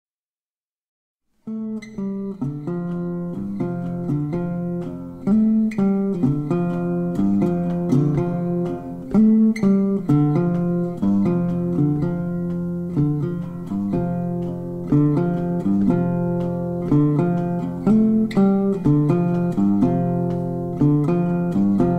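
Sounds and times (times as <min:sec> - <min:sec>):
plucked acoustic guitar music: 0:01.4 - 0:21.9.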